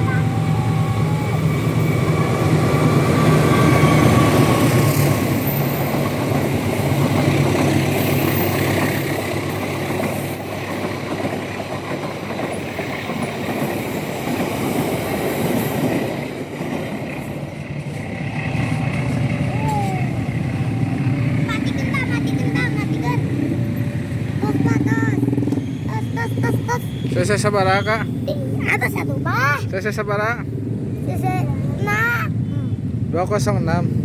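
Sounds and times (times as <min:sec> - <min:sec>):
low engine hum: 0:00.0 - 0:34.0
train wheels rumbling on rails: 0:00.0 - 0:34.0.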